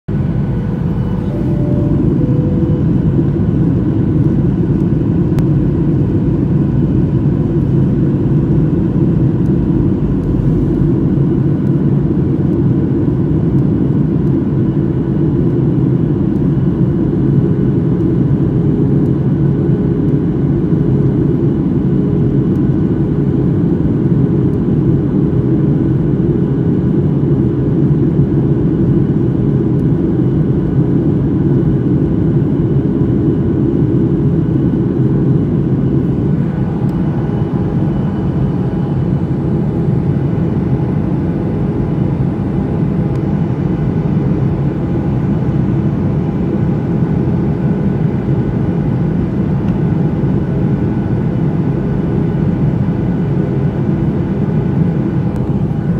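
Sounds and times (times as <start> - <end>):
faint steady hum: 0.1 - 55.9
jet engine and airflow roar: 0.1 - 55.9.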